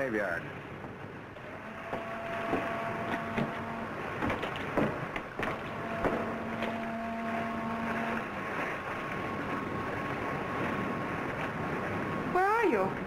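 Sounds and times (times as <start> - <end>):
distant ship's horn blasts: 1.3 - 13.0.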